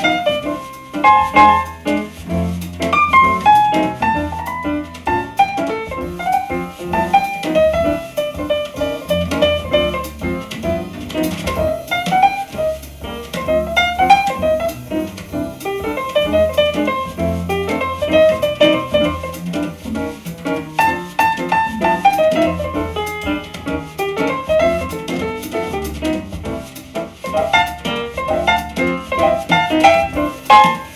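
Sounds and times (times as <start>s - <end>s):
double bass line: 0.0s - 30.9s.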